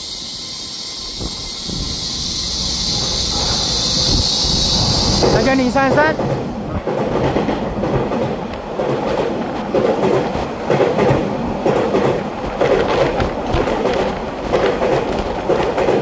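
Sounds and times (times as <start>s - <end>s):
train wheels clacking on rail joints: 1.1s - 16.0s.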